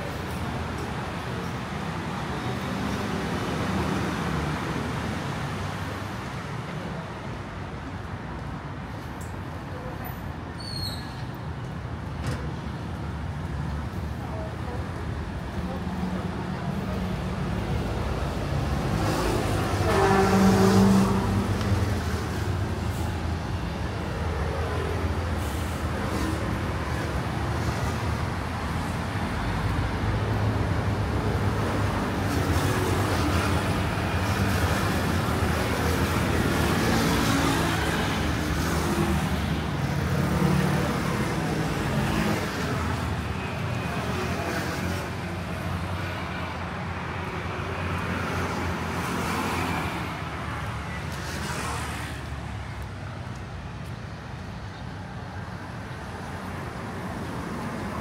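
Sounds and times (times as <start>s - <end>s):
cars and scooters passing: 11.4s - 58.0s.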